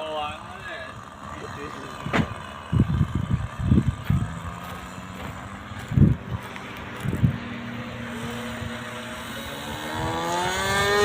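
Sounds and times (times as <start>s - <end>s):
model airplane engine whining: 0.0s - 11.0s
wind buffeting microphone: 1.9s - 11.0s.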